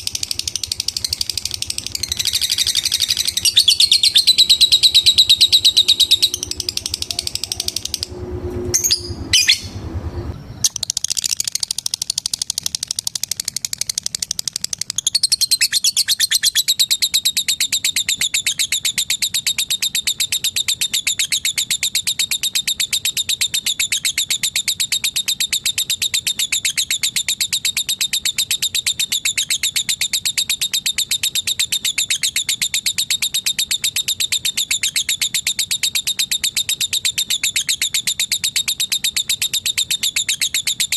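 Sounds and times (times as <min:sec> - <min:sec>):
lovebird chattering trill: 0:00.0 - 0:08.1, 0:08.8 - 0:09.8, 0:10.6 - 0:40.9.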